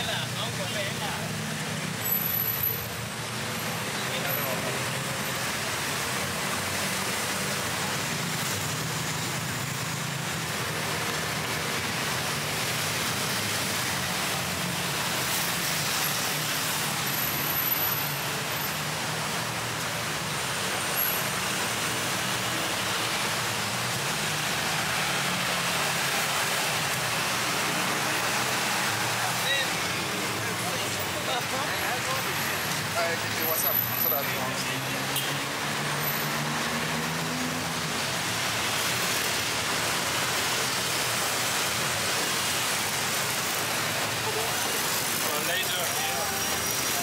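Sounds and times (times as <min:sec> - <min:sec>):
city road traffic: 0:00.0 - 0:47.0.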